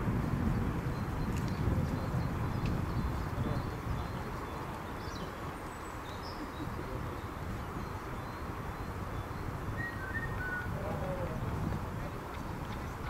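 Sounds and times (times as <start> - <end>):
birds chirping faintly: 0.8 - 13.0.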